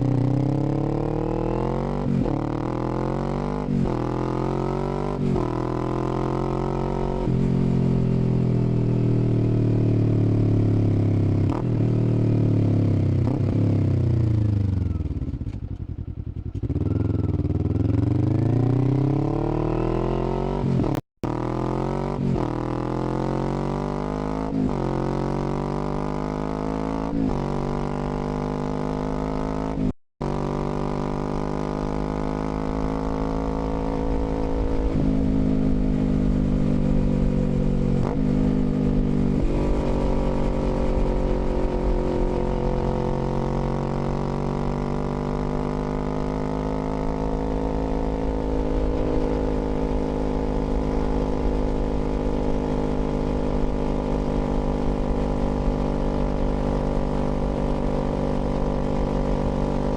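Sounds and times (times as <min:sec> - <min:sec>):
motorcycle engine shifting gears: 0:00.0 - 0:59.9.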